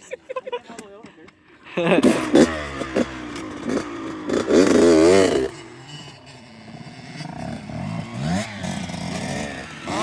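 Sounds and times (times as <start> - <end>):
dirt bike engine revving: 1.8 - 10.0.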